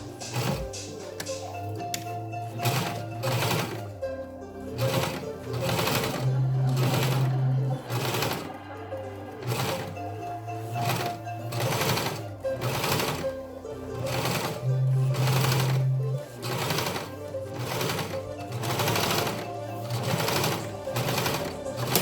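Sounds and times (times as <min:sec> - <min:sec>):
background music: 0:00.0 - 0:22.0
sewing machine stitching: 0:00.0 - 0:22.0.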